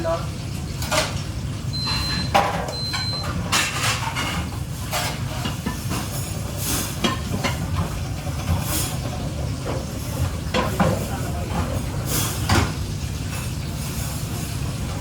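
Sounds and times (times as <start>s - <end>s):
pans and utensils clattering: 0.5s - 15.0s.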